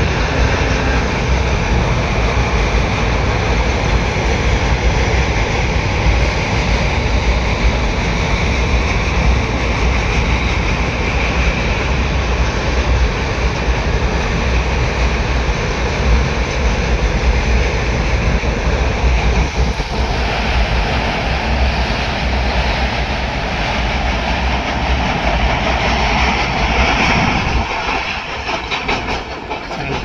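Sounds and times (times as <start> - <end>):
train rumbling over bridge: 0.0 - 30.0.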